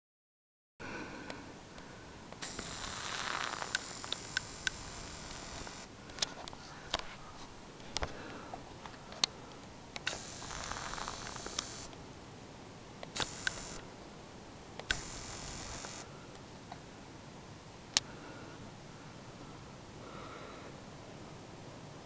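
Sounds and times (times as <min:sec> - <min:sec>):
faint steady hiss: 0:00.8 - 0:22.0.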